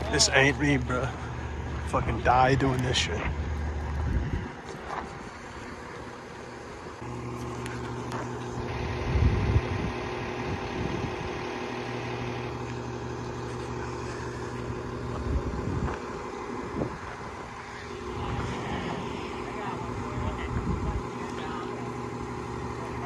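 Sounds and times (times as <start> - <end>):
low rumbles: 0.0 - 23.0
truck engine humming: 0.0 - 23.0.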